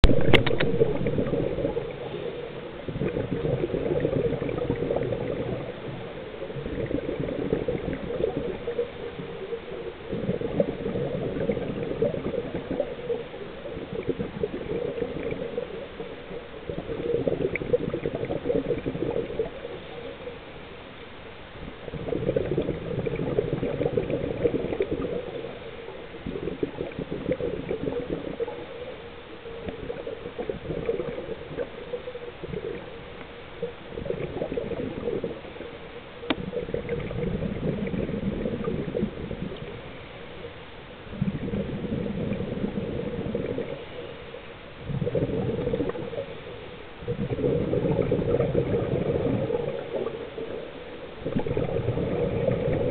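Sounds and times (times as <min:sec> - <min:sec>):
diver's bubbles gurgling underwater: 0:00.0 - 0:20.6, 0:21.6 - 0:52.9.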